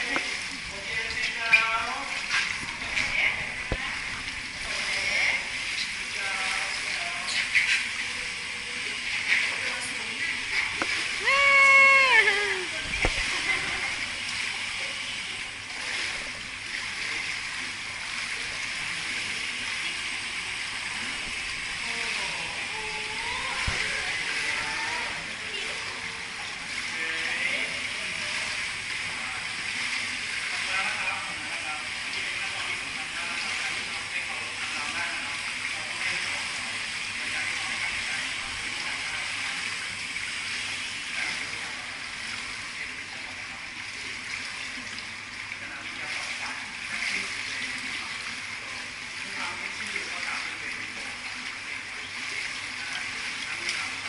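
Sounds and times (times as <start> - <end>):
light water splashing: 0.0 - 54.0
pool water rushing: 0.0 - 54.0.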